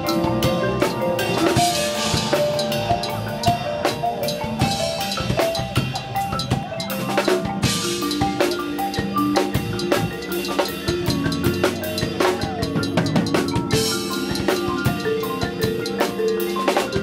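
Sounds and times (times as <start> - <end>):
drum kit: 0.0 - 17.0
marimba and vibraphone notes: 0.0 - 17.0.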